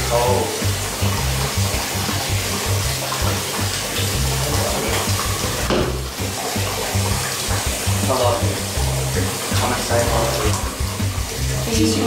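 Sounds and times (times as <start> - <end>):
background music with bass line: 0.0 - 12.0
tap water pouring into bath: 0.0 - 12.0.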